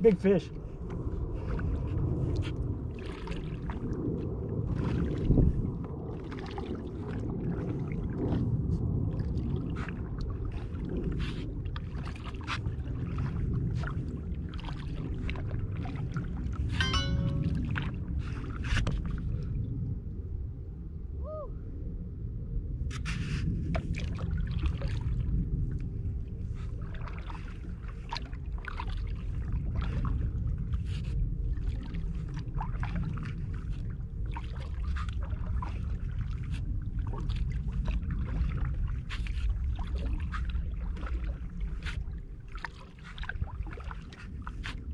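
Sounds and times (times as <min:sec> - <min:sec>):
water rumbling against kayak hull: 0:00.0 - 0:21.1, 0:21.7 - 0:44.9
paddle splashes and drips: 0:00.6 - 0:19.7, 0:22.9 - 0:44.9.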